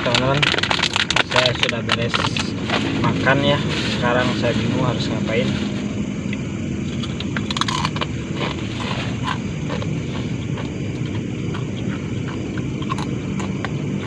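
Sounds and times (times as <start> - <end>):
crackles and scrapes: 0.0 - 5.9, 6.8 - 13.8
low rumble: 0.0 - 14.0.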